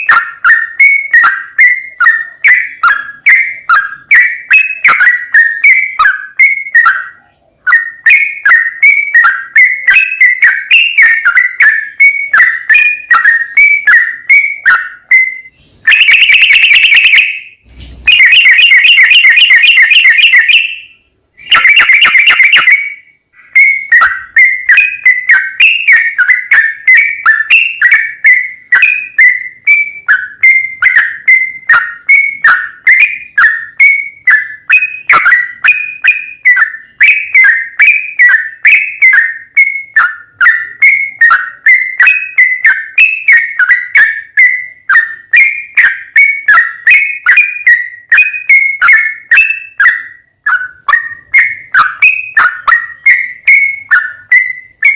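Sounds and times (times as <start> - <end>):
bird singing bubbling trills: 0.0 - 54.9.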